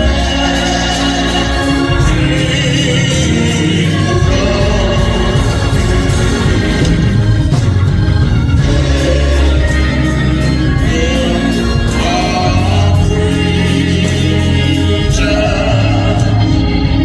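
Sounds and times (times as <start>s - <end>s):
bass and keyboard chords: 0.0s - 17.0s
singing: 0.0s - 17.0s
steady drum beat: 0.0s - 17.0s.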